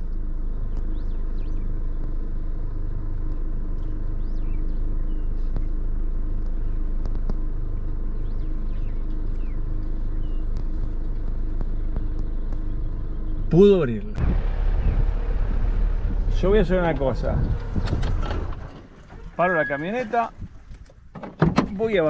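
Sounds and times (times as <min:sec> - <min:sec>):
truck engine running: 0:00.0 - 0:19.7.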